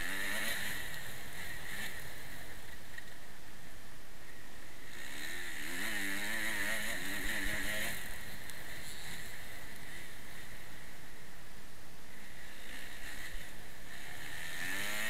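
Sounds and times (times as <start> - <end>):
motocross bike engine revving: 0.0 - 3.5, 4.3 - 11.3, 12.0 - 15.0.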